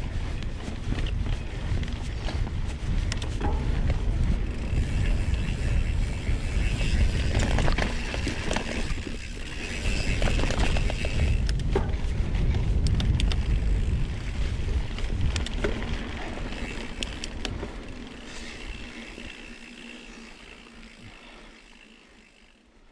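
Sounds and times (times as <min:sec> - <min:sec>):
wind rumble on microphone: 0:00.0 - 0:19.9
bike clicks and rattles: 0:00.0 - 0:22.9
bike tyre noise on dirt: 0:00.0 - 0:22.9.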